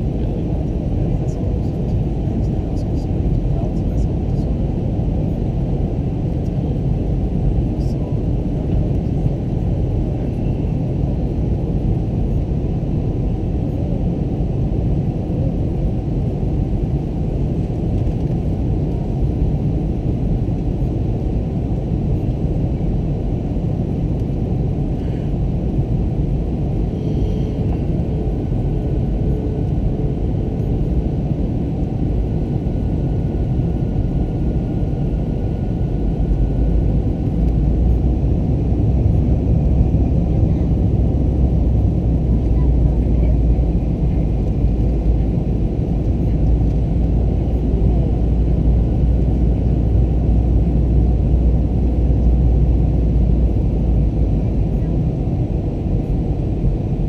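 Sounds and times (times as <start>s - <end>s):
airplane engines rumbling: 0.0s - 57.0s.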